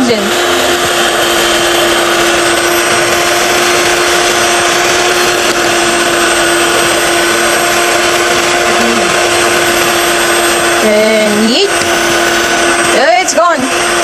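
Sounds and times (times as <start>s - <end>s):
electric hand mixer running: 0.0s - 14.0s.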